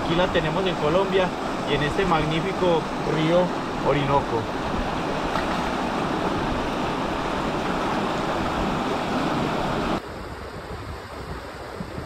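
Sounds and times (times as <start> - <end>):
river rushing over rocks: 0.0 - 10.0
wind: 0.0 - 12.0.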